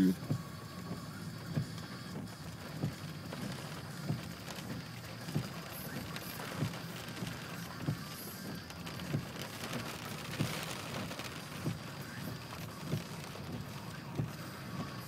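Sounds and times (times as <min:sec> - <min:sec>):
rain pattering on a car: 0:00.0 - 0:15.0.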